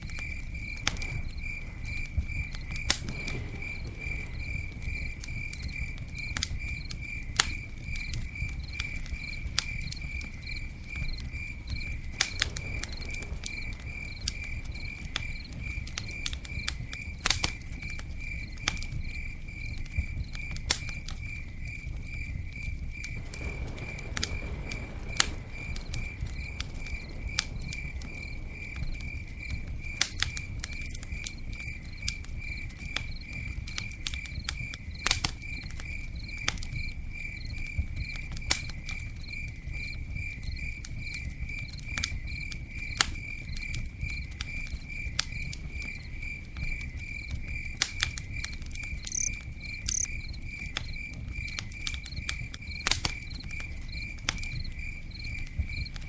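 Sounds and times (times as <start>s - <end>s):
campfire crackling and popping: 0.0s - 56.0s
cricket chirping: 0.0s - 56.0s.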